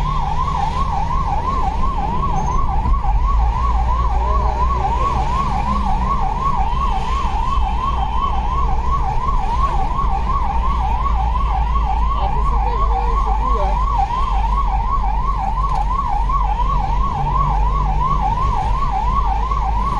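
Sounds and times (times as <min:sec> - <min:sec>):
emergency siren warbling: 0:00.0 - 0:19.9
engine and road rumble: 0:00.0 - 0:19.9.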